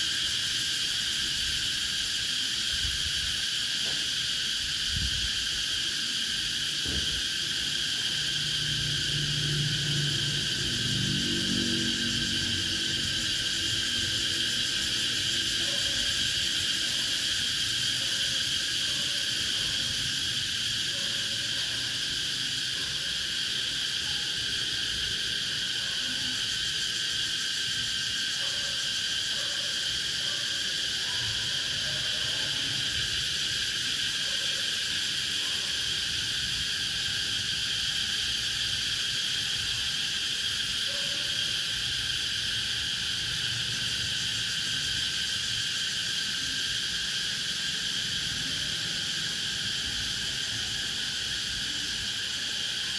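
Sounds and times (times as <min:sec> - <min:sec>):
cicadas droning: 0:00.0 - 0:52.9.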